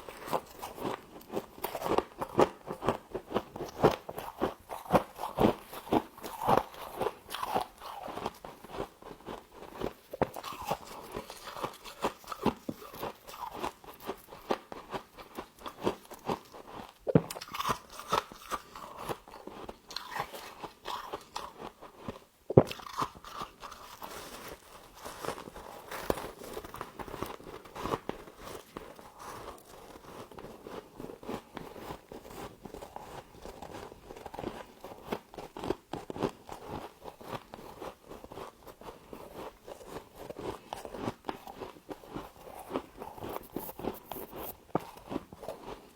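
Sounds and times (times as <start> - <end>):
crunching and chewing frost: 0.0 - 45.9.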